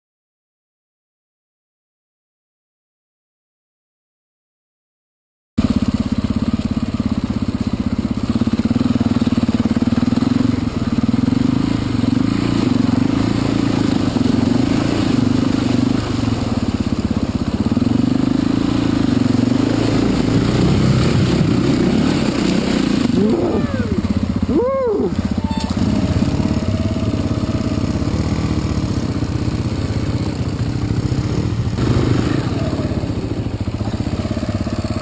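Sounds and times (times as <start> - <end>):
dirt bike engine running: 5.6 - 35.0.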